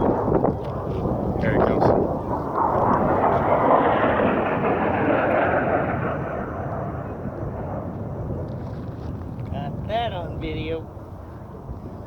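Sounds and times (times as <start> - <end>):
jet flying past: 0.0 - 12.0.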